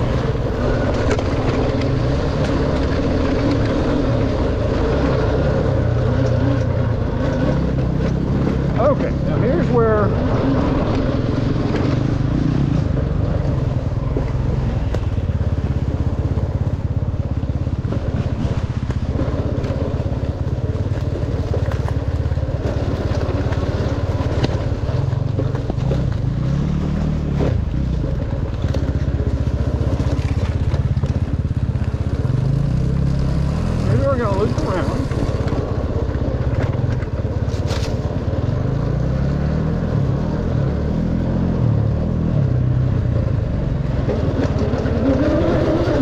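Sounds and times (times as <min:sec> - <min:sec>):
dirt bike engine running: 0:00.0 - 0:46.0.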